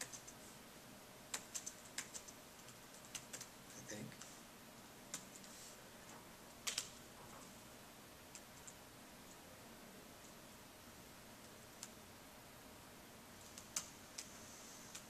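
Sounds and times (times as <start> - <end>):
room hiss: 0.0 - 15.0.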